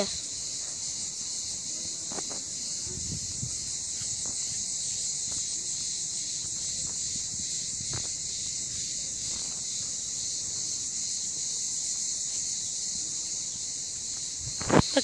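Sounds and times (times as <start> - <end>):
insects droning in trees: 0.0 - 15.0.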